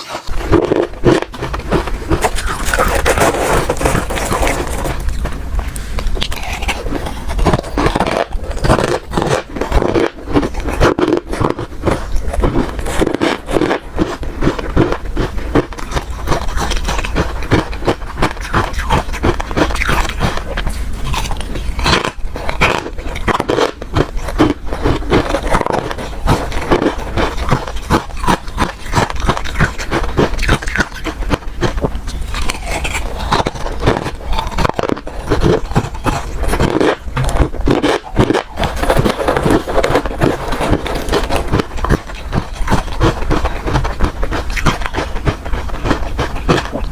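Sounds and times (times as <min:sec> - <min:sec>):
ice being chewed crunching: 0:00.0 - 0:46.9.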